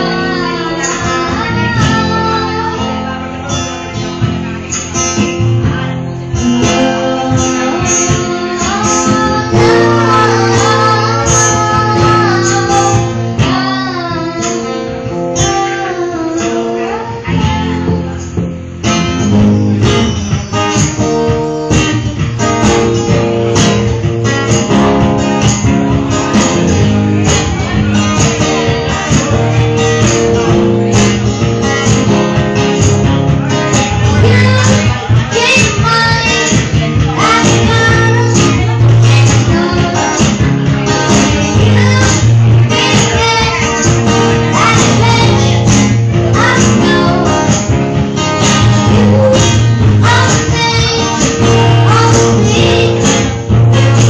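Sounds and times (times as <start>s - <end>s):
person singing: 0.0s - 4.2s, 5.6s - 24.9s, 26.0s - 54.0s
acoustic guitar strumming: 0.0s - 54.0s.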